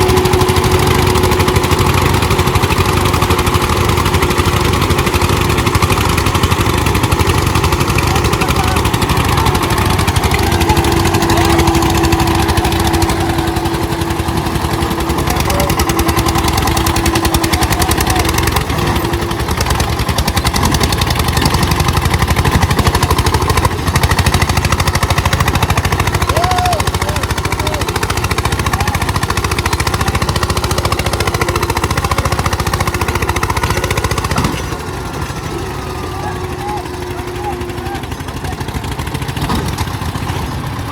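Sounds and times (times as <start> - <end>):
tractor diesel engines pulsing: 0.0 - 40.9.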